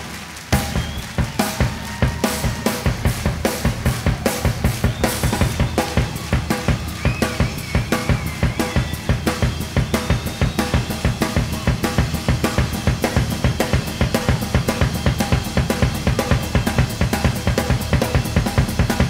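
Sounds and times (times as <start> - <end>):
rock drum kit playing: 0.0 - 19.0.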